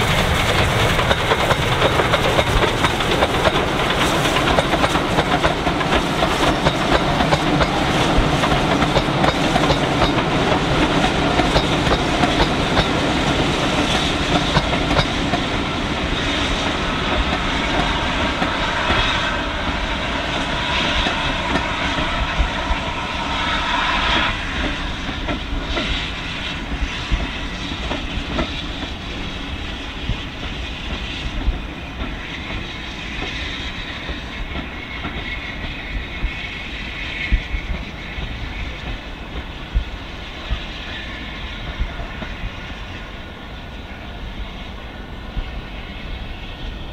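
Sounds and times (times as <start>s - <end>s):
steam train running past: 0.0s - 46.9s.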